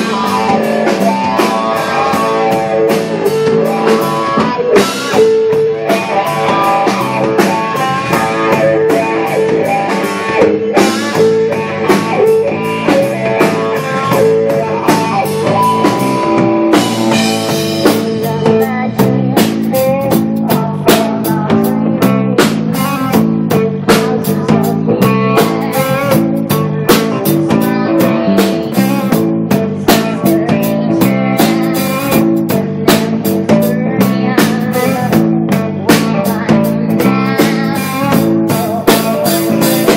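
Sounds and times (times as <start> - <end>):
bass guitar: 0.0 - 39.9
drum kit beat: 0.0 - 39.9
electric guitar: 0.0 - 39.9
keyboard: 0.0 - 39.9.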